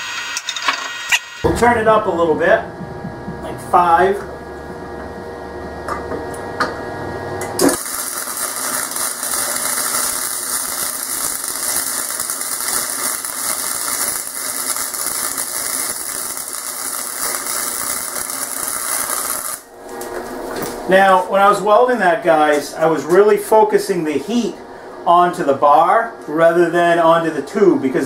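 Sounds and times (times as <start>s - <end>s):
welder arc crackling and sizzling: 0.0s - 2.6s, 3.4s - 24.5s.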